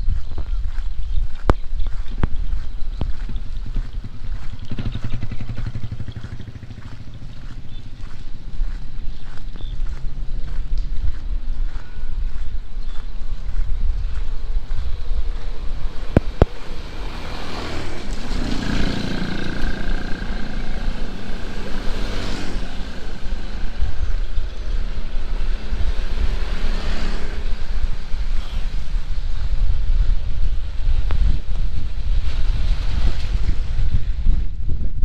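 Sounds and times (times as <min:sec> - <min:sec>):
wind buffeting the microphone: 0:00.0 - 0:35.0
motor vehicle passing: 0:01.9 - 0:34.6.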